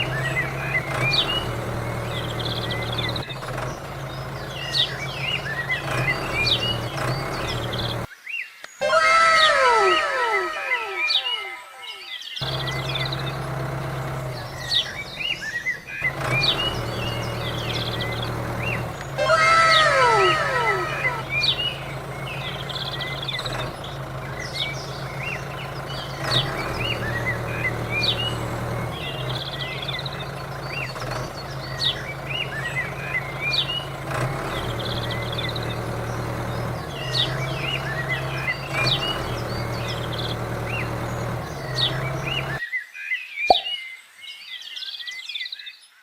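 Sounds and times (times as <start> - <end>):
diesel pump engine running: 0.0 - 8.1, 12.4 - 42.6
birds chirping: 0.0 - 45.8.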